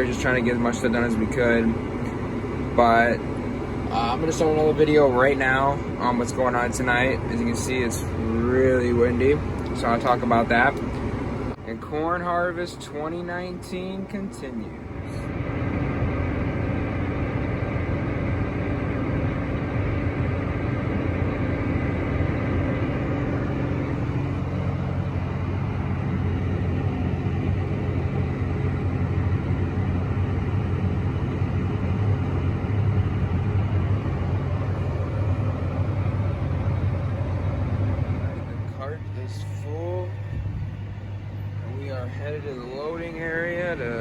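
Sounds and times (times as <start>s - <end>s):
high steady whine: 0.0s - 44.0s
tractor engine running: 0.0s - 44.0s.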